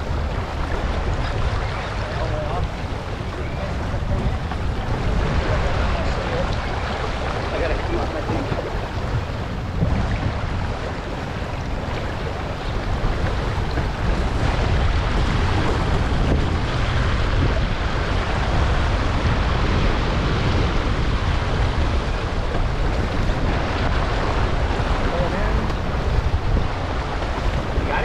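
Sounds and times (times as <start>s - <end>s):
water rushing past hull: 0.0s - 28.0s
wind buffeting microphone: 0.0s - 28.0s.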